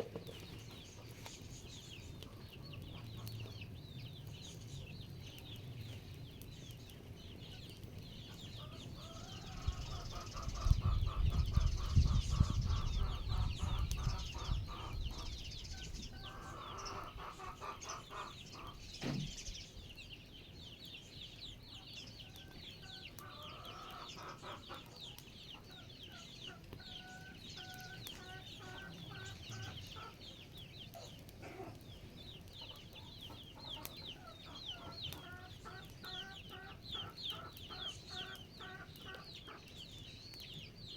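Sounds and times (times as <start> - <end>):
chickens clucking: 0.0 - 19.6, 21.6 - 40.6.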